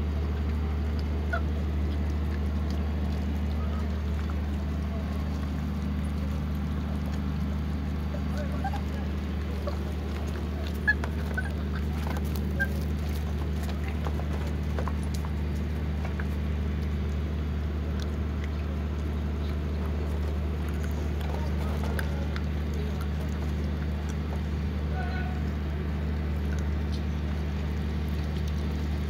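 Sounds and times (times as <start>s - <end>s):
puppies chewing and clicking: 0.0s - 29.0s
steady low hum: 0.0s - 29.0s.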